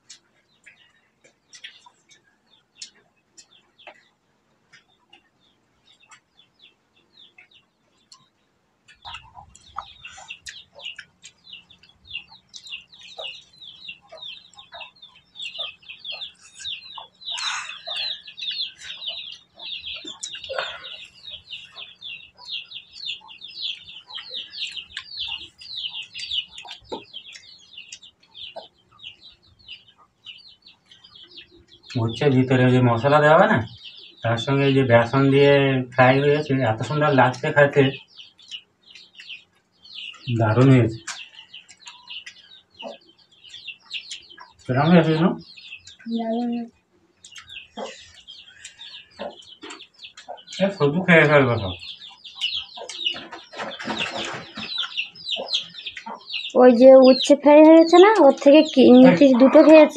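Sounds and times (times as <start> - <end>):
chickens chirping: 0.0 - 59.9.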